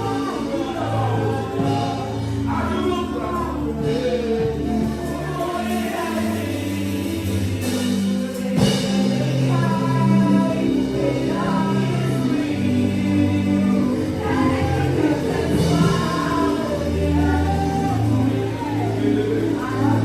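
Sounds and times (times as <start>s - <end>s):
gospel choir singing: 0.0s - 20.0s
sustained chords: 0.0s - 20.0s.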